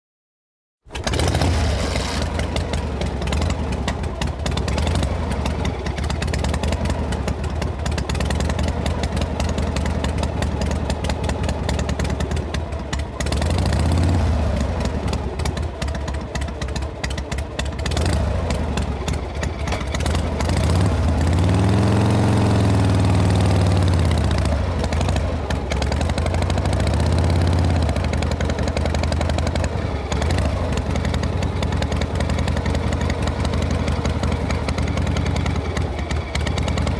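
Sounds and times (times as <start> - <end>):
motorcycle engine pulsing: 0.9 - 36.9.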